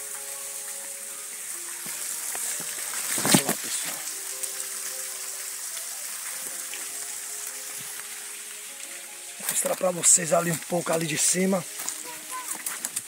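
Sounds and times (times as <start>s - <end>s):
leaves rustling against camera: 1.6s - 13.0s.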